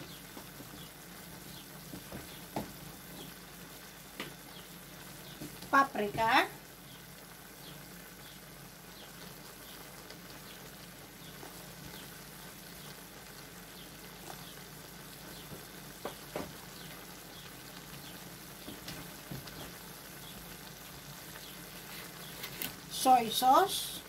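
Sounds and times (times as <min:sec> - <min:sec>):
chicken sizzling in a wok: 0:00.0 - 0:24.0.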